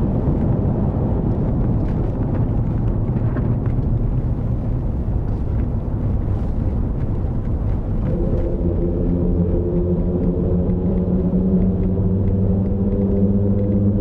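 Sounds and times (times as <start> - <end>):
humming drone of tyres on bridge: 0.0 - 14.0
road and engine rumble: 0.0 - 14.0.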